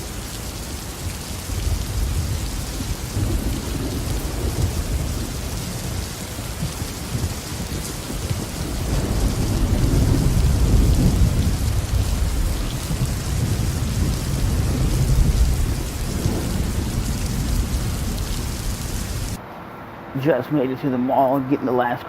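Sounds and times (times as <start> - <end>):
heavy rain: 0.0 - 19.4
thunder rumbling: 0.0 - 19.4.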